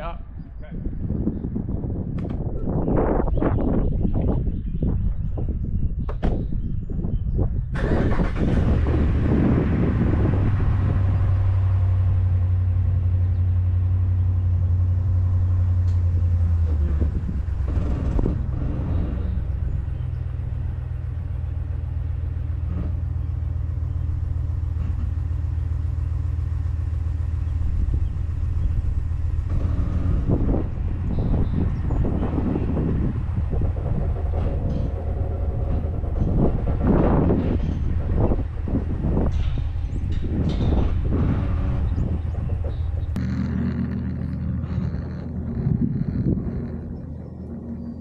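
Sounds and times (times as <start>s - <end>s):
truck engine running: 1.0s - 48.0s.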